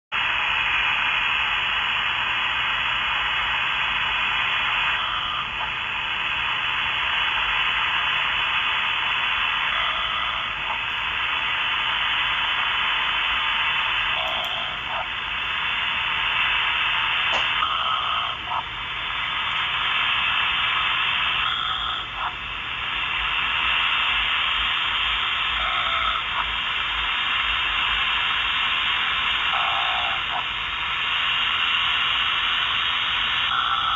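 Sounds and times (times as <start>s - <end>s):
radio static hiss: 0.1s - 33.9s.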